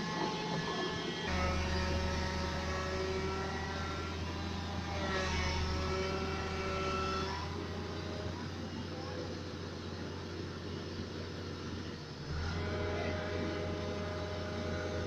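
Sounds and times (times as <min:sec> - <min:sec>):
excavator diesel engine drone: 0:00.0 - 0:15.0
whining tones: 0:00.0 - 0:15.0.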